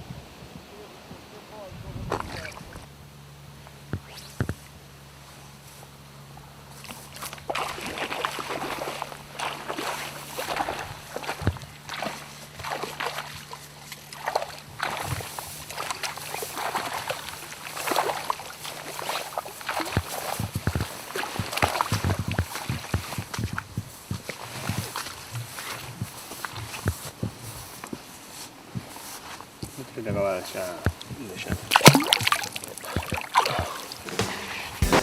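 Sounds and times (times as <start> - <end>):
water splashing and sloshing: 2.1 - 2.9, 6.8 - 29.6, 30.6 - 35.0.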